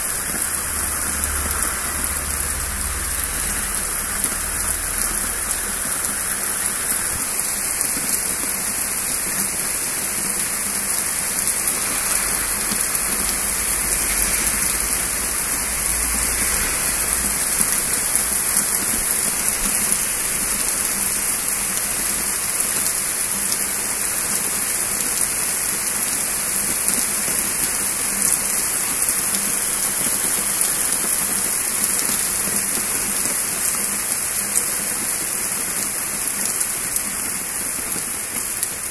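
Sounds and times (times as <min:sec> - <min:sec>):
rain falling steadily: 0:00.0 - 0:38.9.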